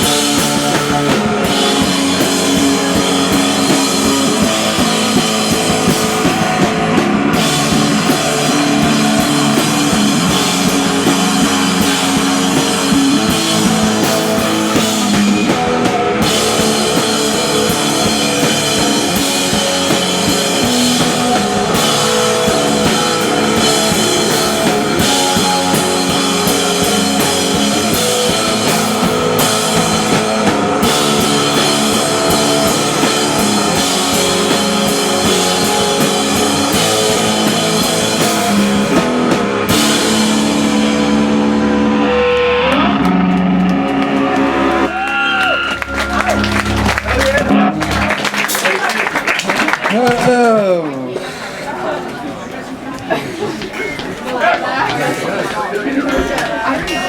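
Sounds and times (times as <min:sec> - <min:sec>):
distorted electric guitar: 0:00.0 - 0:50.3
drum kit: 0:00.0 - 0:51.4
rock band playing loudly: 0:00.0 - 0:57.0.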